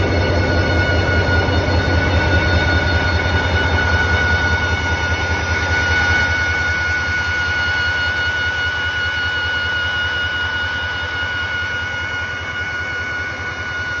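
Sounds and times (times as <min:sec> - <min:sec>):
diesel engine throbbing: 0:00.0 - 0:14.0
turbocharger whine: 0:00.0 - 0:14.0.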